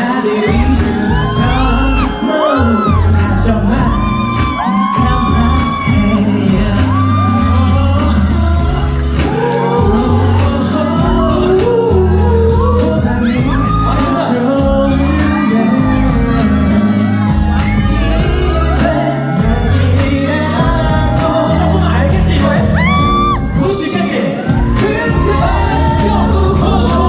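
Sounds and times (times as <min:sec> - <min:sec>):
audience shouts and whoops: 0:00.0 - 0:27.0
male vocal group singing: 0:00.0 - 0:27.0
pulsing bass beat: 0:00.5 - 0:23.9, 0:24.5 - 0:27.0.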